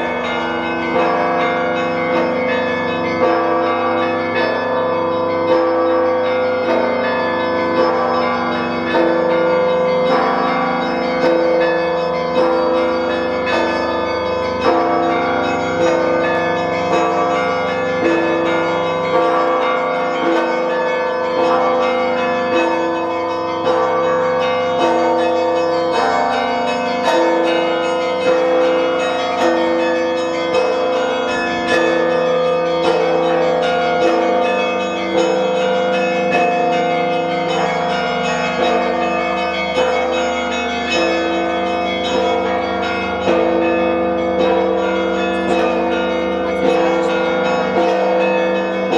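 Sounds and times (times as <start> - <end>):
heavy church bell striking: 0.0 - 48.9
small church bells ringing fast: 0.0 - 48.9.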